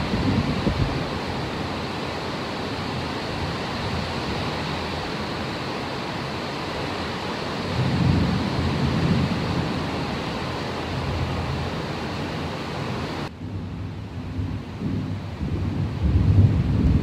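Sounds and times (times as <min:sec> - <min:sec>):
heavy rain rushing: 0:00.0 - 0:17.0.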